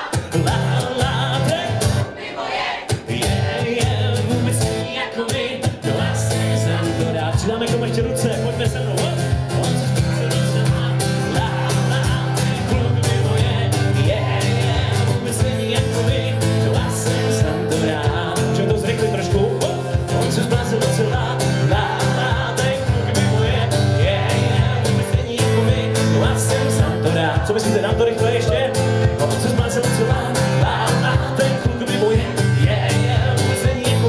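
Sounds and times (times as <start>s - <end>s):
acoustic guitar strumming: 0.0s - 34.0s
person singing: 0.0s - 34.0s.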